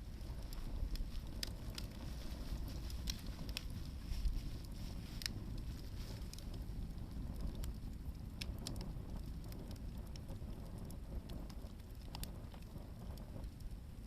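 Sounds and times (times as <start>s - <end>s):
campfire crackling and popping: 0.0s - 14.0s
low steady rumble: 0.0s - 14.0s.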